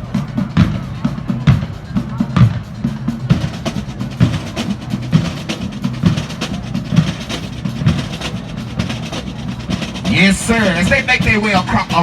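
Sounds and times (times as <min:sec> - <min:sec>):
bass drum beat: 0:00.0 - 0:12.0
snare drum strokes: 0:02.4 - 0:12.0.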